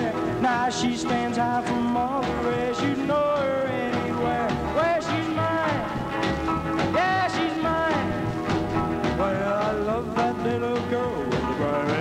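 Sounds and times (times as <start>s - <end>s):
music with sliding melody: 0.0s - 12.0s.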